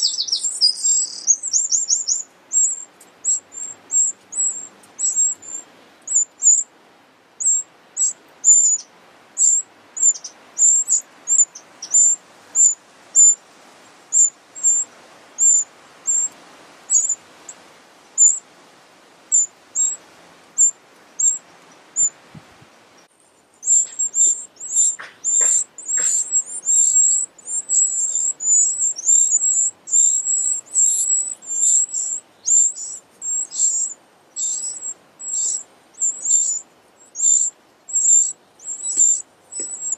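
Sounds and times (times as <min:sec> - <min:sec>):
nestlings cheeping: 0:00.0 - 0:06.6, 0:07.4 - 0:13.4, 0:14.1 - 0:17.2, 0:19.3 - 0:20.0, 0:20.6 - 0:21.4, 0:23.6 - 0:39.9.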